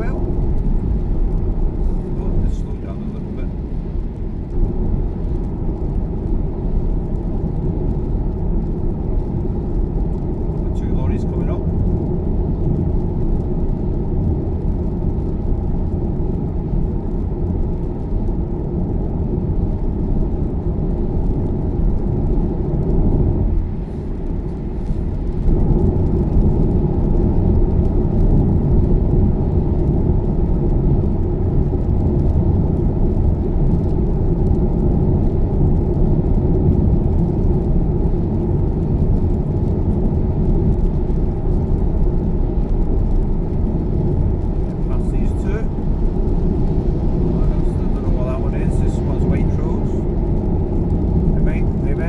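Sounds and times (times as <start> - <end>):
road and tyre noise: 0.0 - 52.0.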